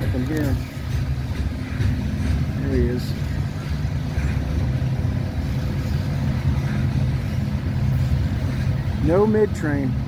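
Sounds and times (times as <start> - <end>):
diesel locomotives droning: 0.0 - 10.0
train cars rolling on steel wheels: 0.0 - 10.0.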